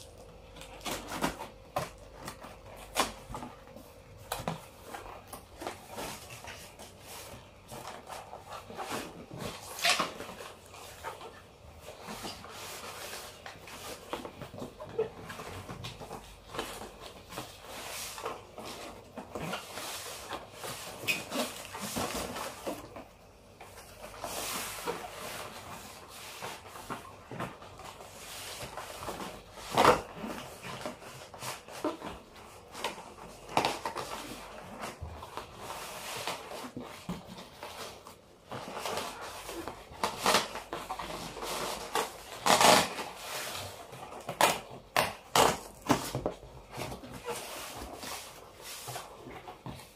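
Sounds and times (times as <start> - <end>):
cardboard rustling and scraping: 0.3 - 49.9.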